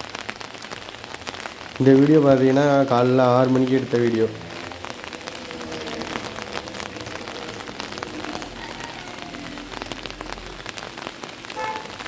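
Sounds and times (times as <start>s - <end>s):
raindrops ticking on hard surfaces: 0.0s - 12.0s.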